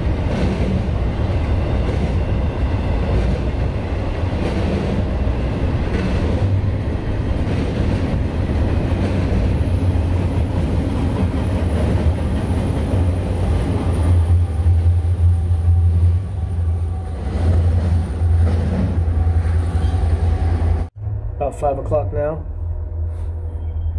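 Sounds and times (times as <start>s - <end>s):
freight train rumbling past: 0.0s - 23.9s.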